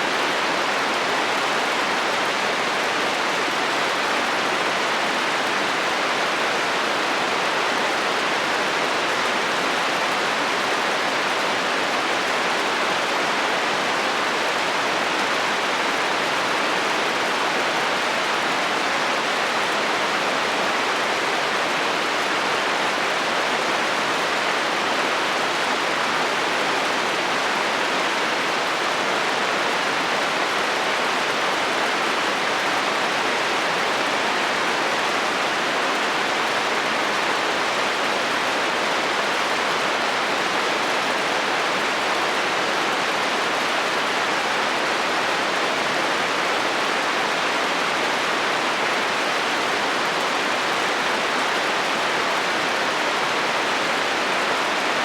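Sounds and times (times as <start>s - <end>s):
rain on a metal roof: 0.0s - 55.0s.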